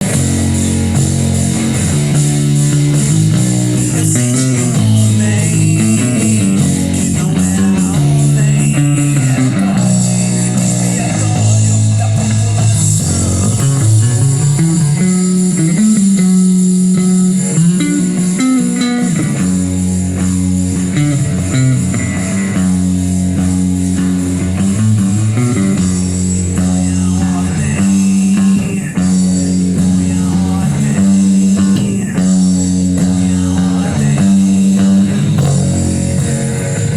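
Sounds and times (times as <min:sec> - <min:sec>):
bass guitar line: 0:00.0 - 0:36.9
rock music: 0:00.0 - 0:36.9.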